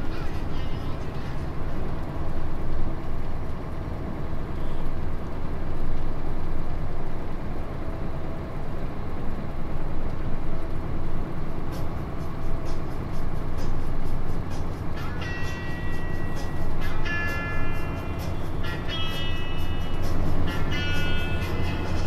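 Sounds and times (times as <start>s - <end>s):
road noise: 0.0s - 22.0s
truck engine rumble: 0.0s - 22.0s.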